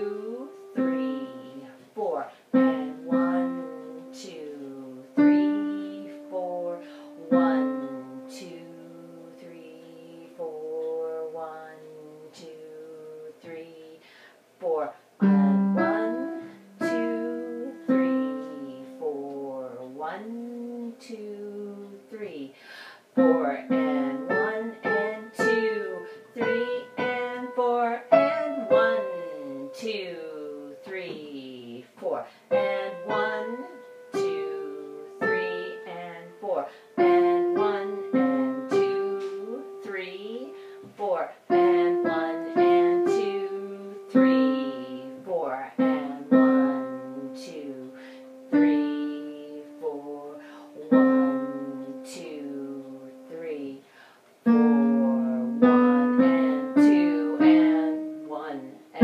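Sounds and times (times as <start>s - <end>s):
piano notes: 0.0s - 13.4s, 15.2s - 22.0s, 23.2s - 53.8s, 54.4s - 59.0s.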